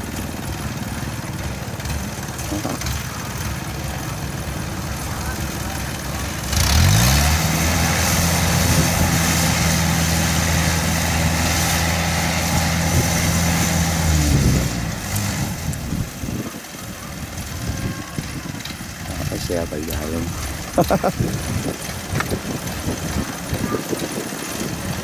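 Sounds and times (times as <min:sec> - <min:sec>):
diesel tractor engine revving: 0:00.0 - 0:25.0.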